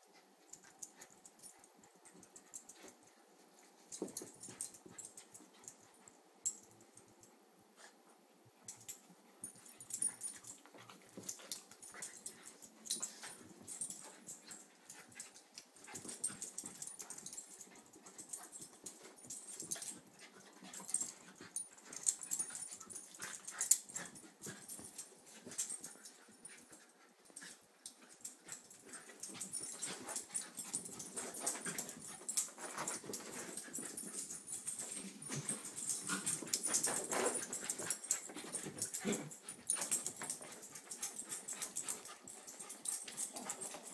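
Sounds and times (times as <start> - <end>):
dogs breathing and scuffling: 0.0 - 43.9.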